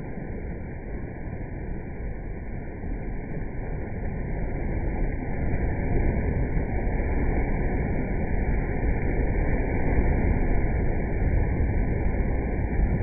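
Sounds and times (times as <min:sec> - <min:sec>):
small waves breaking on beach: 0:00.0 - 0:13.0.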